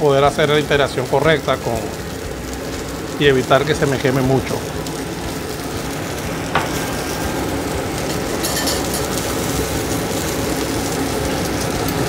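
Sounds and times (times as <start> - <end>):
kitchen extractor fan: 0.0 - 12.0
meat sizzling in a frying pan: 0.0 - 12.0.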